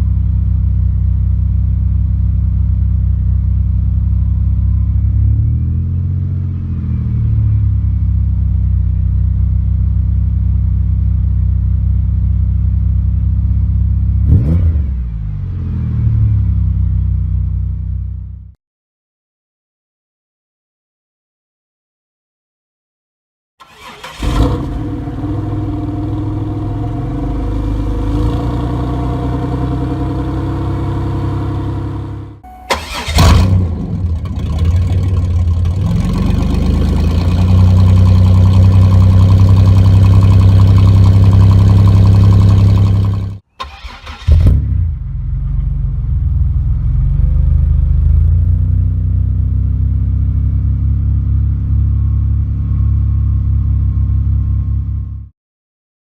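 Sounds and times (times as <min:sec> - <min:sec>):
car engine idling and revving: 0:00.0 - 0:18.6, 0:23.6 - 0:55.1.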